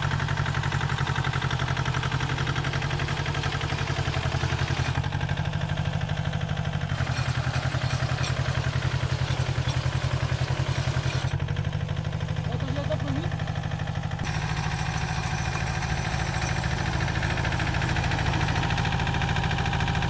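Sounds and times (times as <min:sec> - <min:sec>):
hay baler machinery clatter: 0:00.0 - 0:11.4, 0:12.5 - 0:20.0
tractor engine running: 0:00.0 - 0:20.0.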